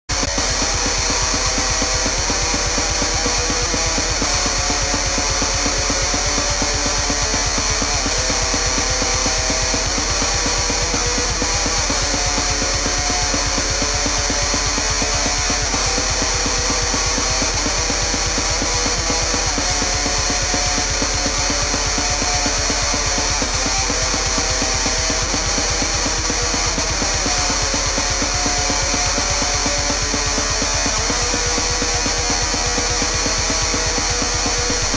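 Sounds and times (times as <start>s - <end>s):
heavy metal music: 0.1s - 34.9s.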